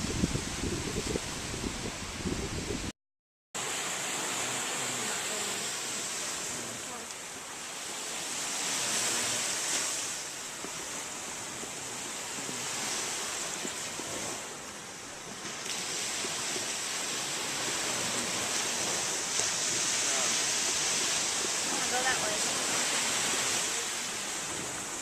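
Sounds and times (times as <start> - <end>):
ocean waves on sandy beach: 0.0 - 2.9, 3.6 - 25.0.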